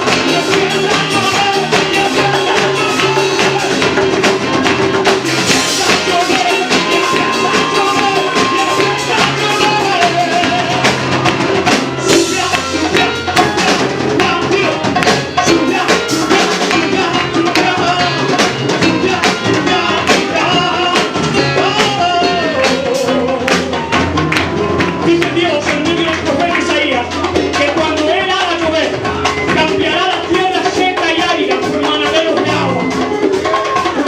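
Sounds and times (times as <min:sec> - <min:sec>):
singing over drums and percussion: 0:00.0 - 0:34.0.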